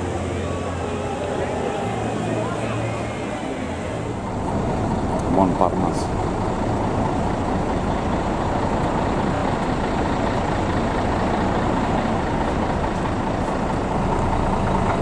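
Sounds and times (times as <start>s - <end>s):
rumble of motor traffic: 0.0s - 15.0s.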